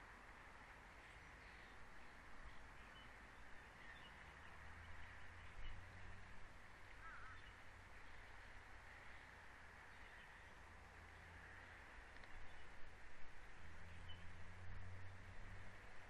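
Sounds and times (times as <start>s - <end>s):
faint outdoor microphone hiss: 0.0s - 16.0s
distant bird chirps: 1.0s - 12.9s, 13.6s - 15.2s.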